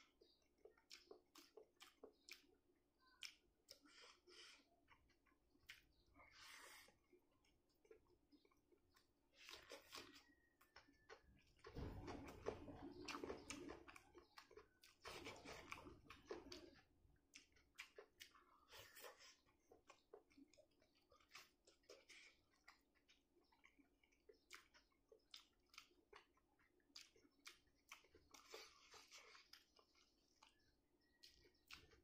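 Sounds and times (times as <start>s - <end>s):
close-up chewing: 0.0s - 32.0s.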